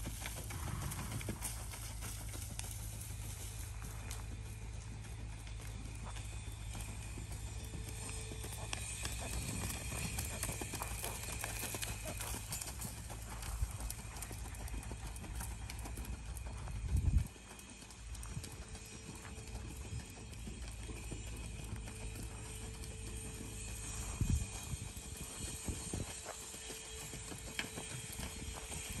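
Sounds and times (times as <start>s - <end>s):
horse hoofbeats on sand: 0.0s - 29.0s.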